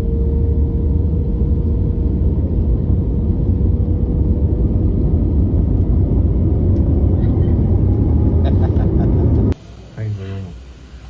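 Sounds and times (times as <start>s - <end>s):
airplane rumble: 0.0s - 11.0s
faint constant hum: 0.0s - 11.0s.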